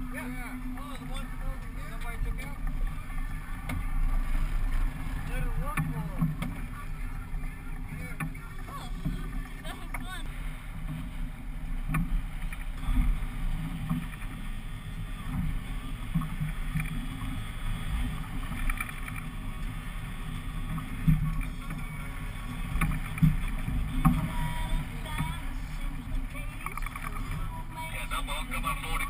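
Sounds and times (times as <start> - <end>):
boat outboard engines rumbling: 0.0 - 29.0.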